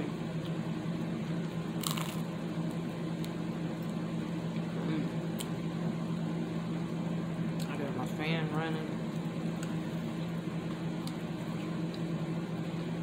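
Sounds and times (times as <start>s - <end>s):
chewing and crunching pizza: 0.0s - 5.8s, 6.7s - 12.9s
electric fan humming: 0.0s - 13.0s.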